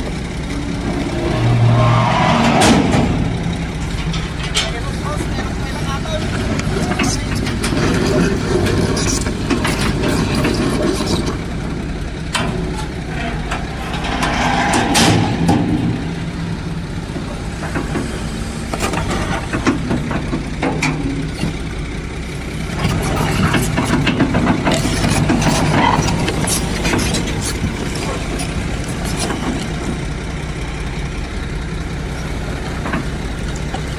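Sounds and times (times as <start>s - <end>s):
metal clanks and knocks: 0.0s - 11.4s, 12.3s - 21.6s, 22.8s - 30.0s
heavy diesel engines running: 0.0s - 33.9s.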